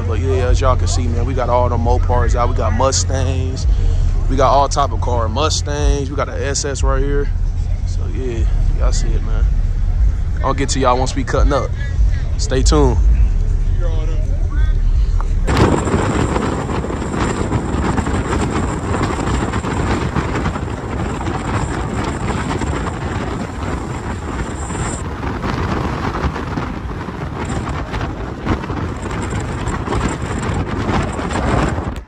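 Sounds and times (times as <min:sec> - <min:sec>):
car engine and exhaust: 0:00.0 - 0:32.0
wind buffeting microphone: 0:00.0 - 0:32.0.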